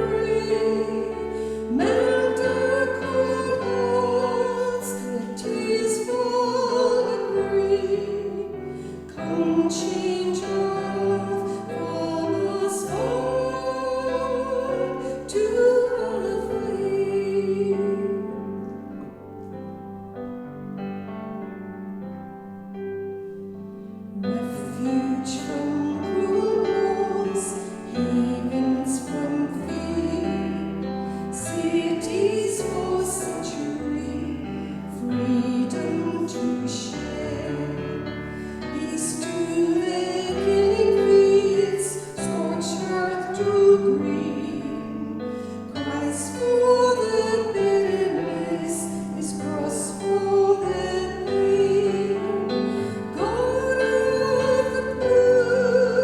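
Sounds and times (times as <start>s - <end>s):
person singing classical style: 0.0s - 20.3s, 22.6s - 56.0s
keyboard accompaniment: 0.0s - 56.0s.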